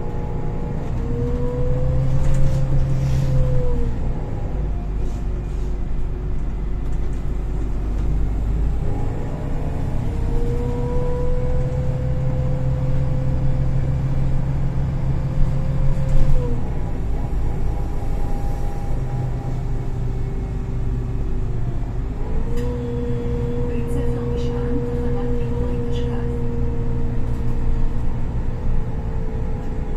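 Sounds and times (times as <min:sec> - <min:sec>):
bus engine drone with whine: 0:00.0 - 0:29.9.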